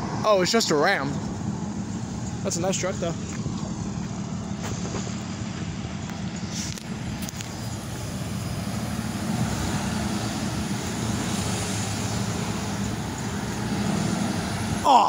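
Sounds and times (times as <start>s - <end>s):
road traffic passing: 0.0s - 15.0s
truck engine drone: 0.0s - 15.0s.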